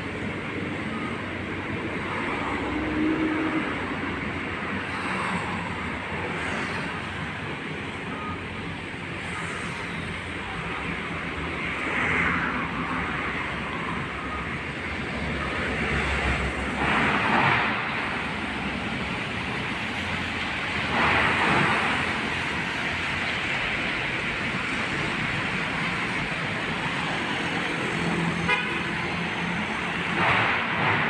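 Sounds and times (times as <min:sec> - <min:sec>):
traffic rumble on wet road: 0:00.0 - 0:31.0.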